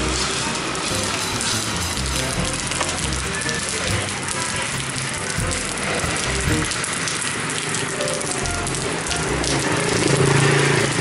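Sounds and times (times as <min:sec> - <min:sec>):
water splattering onto concrete: 0:00.0 - 0:11.0.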